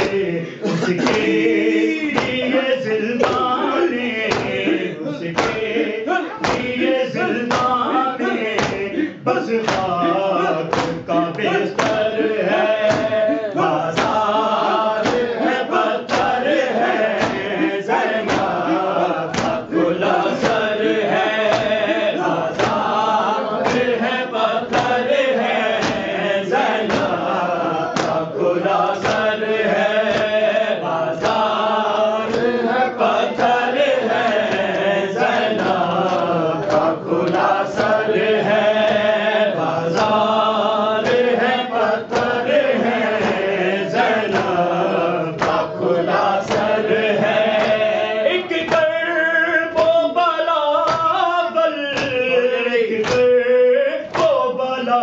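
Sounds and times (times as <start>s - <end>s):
sharp rhythmic strikes: 0.0s - 54.9s
voices chanting a lament: 0.0s - 55.0s.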